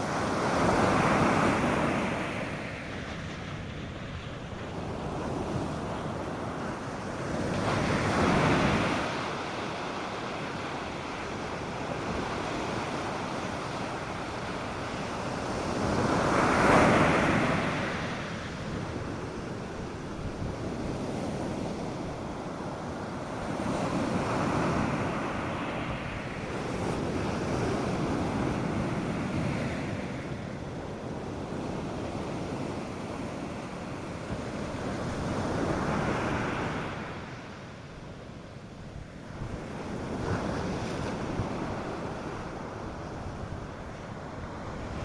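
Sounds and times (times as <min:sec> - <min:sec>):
surf breaking on sandy beach: 0:00.0 - 0:37.6.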